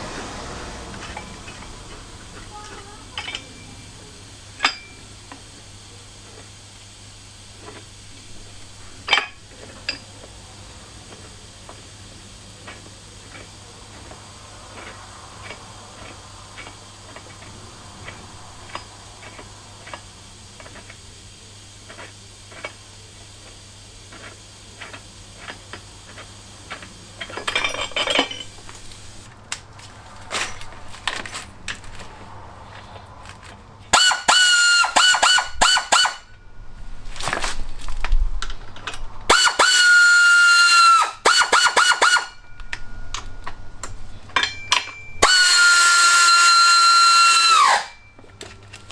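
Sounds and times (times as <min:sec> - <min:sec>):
pneumatic tool whining: 0:00.0 - 0:10.3, 0:11.0 - 0:29.3, 0:32.7 - 0:36.4, 0:38.4 - 0:48.9.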